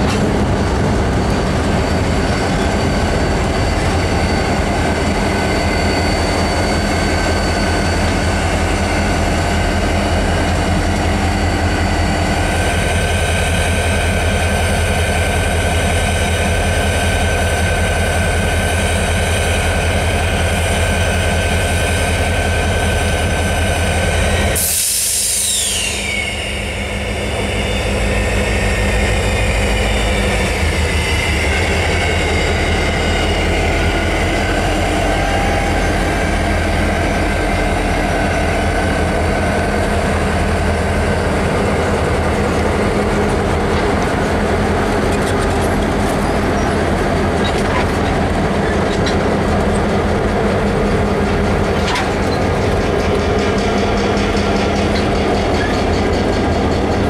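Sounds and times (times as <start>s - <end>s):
diesel locomotive engines droning: 0.0s - 57.0s.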